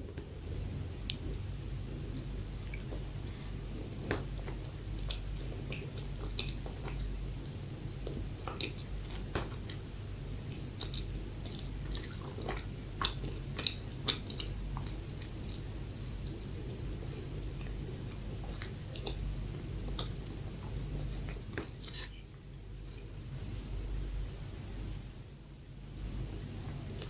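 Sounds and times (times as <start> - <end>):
chewing soft bread: 0.0 - 23.2.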